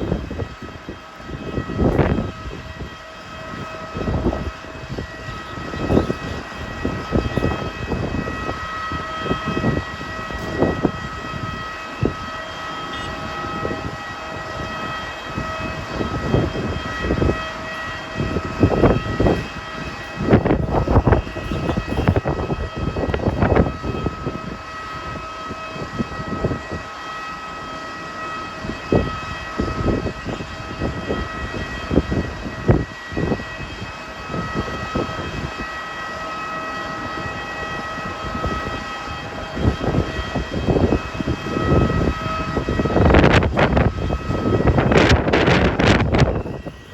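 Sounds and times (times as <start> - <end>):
high mechanical whine: 0.0 - 46.9
wind gusts buffeting microphone: 0.0 - 46.9.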